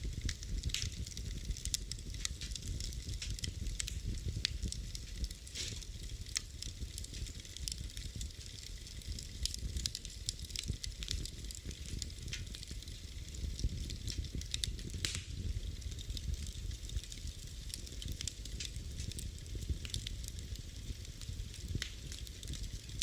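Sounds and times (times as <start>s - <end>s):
fire popping and snapping: 0.0s - 23.0s
low rumble of flames: 0.0s - 23.0s.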